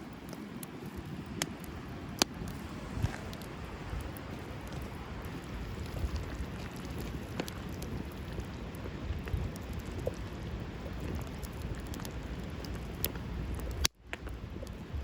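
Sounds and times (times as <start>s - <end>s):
campfire crackling and hissing: 0.0s - 15.0s.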